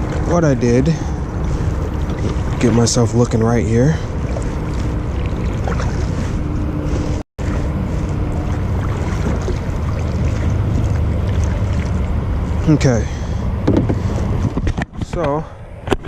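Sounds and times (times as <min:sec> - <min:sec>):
wind rumble on microphone: 0:00.0 - 0:12.8, 0:13.4 - 0:16.0.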